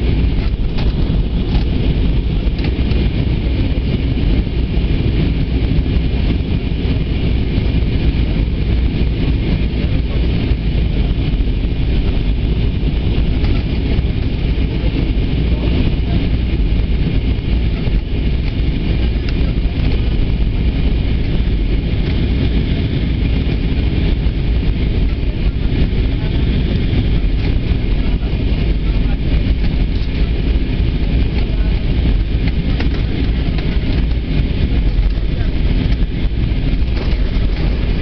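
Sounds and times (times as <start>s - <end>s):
airplane cabin engine rush: 0.0s - 38.0s.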